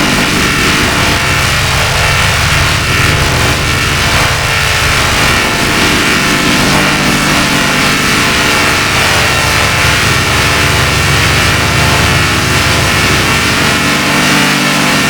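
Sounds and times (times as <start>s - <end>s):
mechanical buzzing hum: 0.0s - 15.0s.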